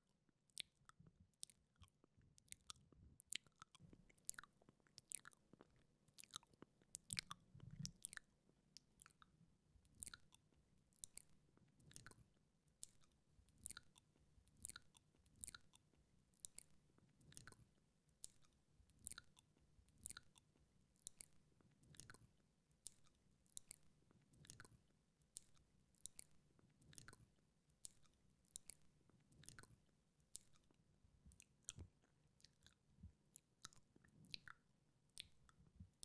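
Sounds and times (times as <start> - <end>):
wet mouth clicks: 0.5 - 9.3, 9.9 - 12.2, 12.8 - 15.8, 16.4 - 17.6, 18.2 - 24.8, 25.4 - 34.6, 35.2 - 35.6.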